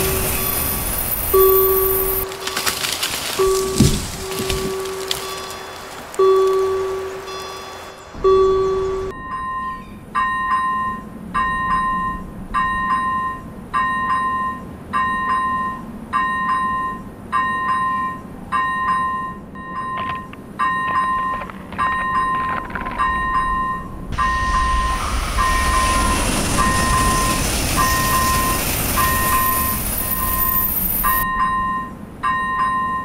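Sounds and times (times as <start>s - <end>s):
railroad crossing bell ringing: 0.0s - 2.6s, 3.4s - 33.0s
passing train rumble: 0.0s - 32.8s.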